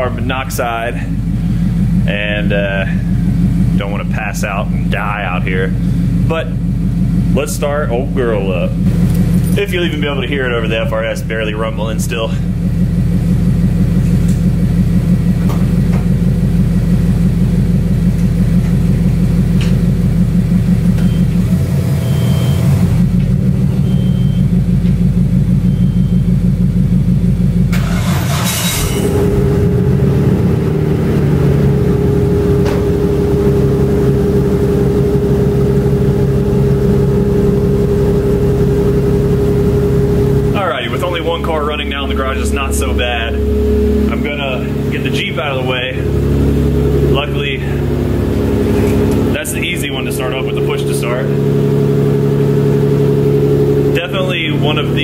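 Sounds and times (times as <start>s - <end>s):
car engine fast idle: 0.0s - 4.9s, 5.5s - 55.0s
car engine cranking: 0.0s - 55.0s.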